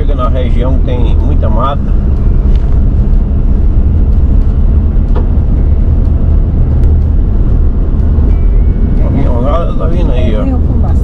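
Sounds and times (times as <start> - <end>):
vehicle driving on dirt road: 0.0 - 11.0.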